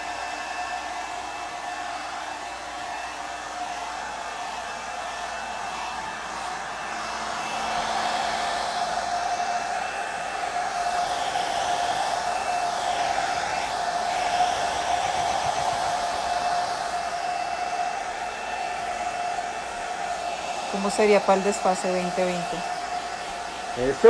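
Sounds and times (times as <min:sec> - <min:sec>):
hair dryer running: 0:00.0 - 0:24.0.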